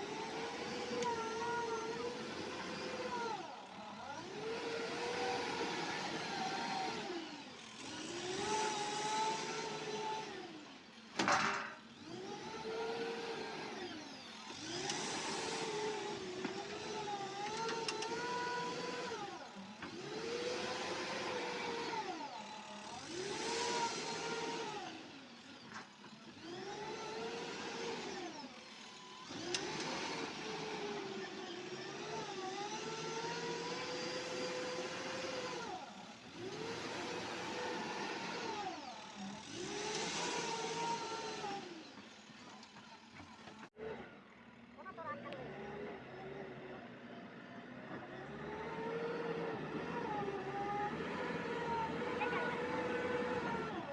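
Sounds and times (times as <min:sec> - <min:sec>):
heavy machinery diesel engine: 0:00.0 - 0:53.9.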